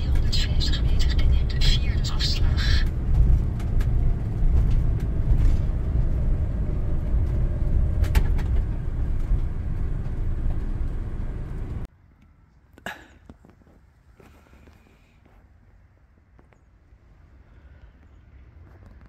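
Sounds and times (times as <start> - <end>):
van engine and road rumble: 0.0 - 19.0.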